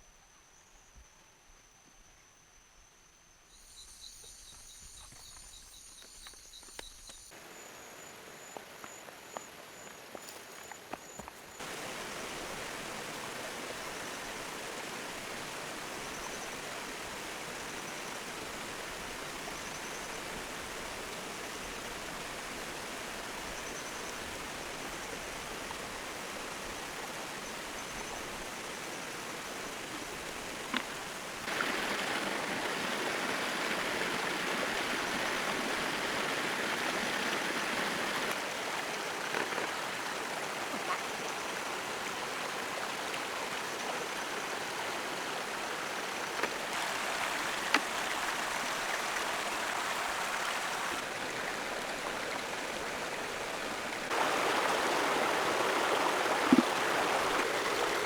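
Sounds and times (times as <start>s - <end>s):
insects chirping: 0.0s - 58.0s
flowing water rushing: 7.3s - 58.0s.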